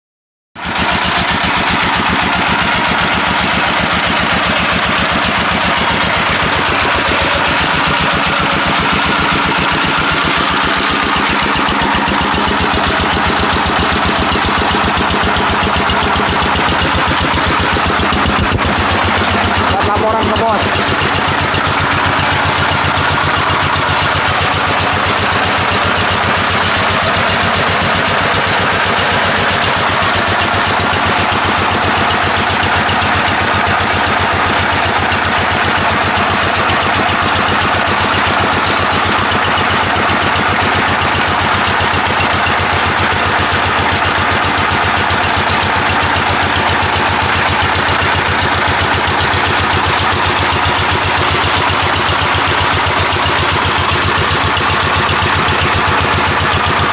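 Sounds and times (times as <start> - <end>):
diesel engine running steadily: 0.6 - 56.9.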